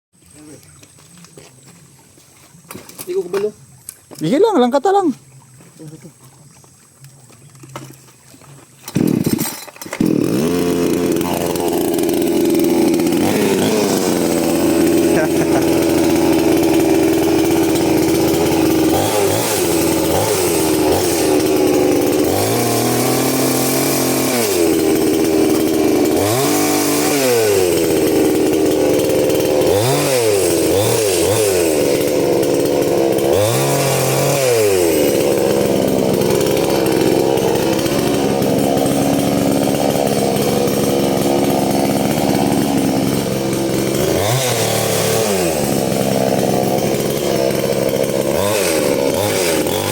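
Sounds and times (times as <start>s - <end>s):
off-road engine revving: 8.9s - 49.9s.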